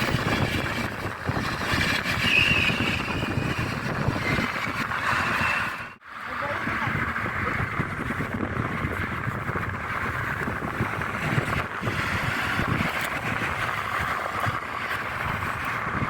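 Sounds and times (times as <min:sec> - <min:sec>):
train rumbling past: 0:00.0 - 0:15.7
wind buffeting microphone: 0:00.0 - 0:16.0.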